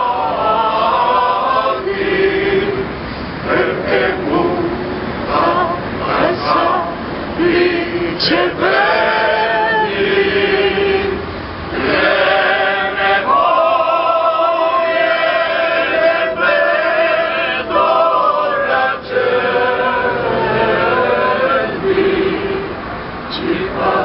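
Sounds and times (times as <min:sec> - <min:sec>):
group of men singing: 0:00.0 - 0:24.0.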